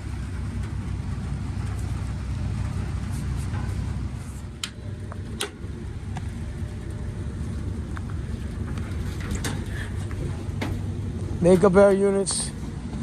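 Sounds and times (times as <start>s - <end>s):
fans running with low rumble: 0.0s - 13.0s.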